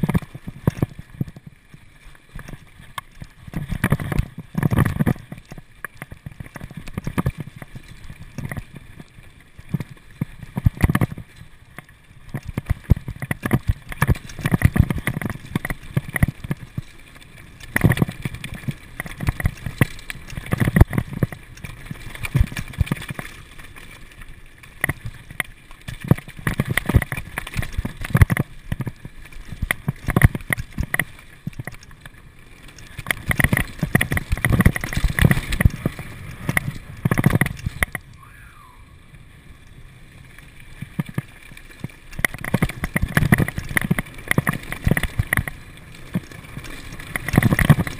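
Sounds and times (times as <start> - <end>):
mountain bike rattling: 0.0 - 38.1, 39.4 - 47.9
wind rumble on microphone: 0.0 - 47.9.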